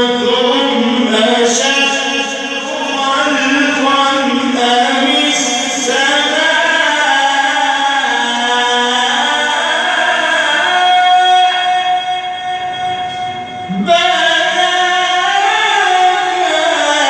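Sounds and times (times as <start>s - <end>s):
man chanting melodically: 0.0s - 13.0s, 13.6s - 17.0s.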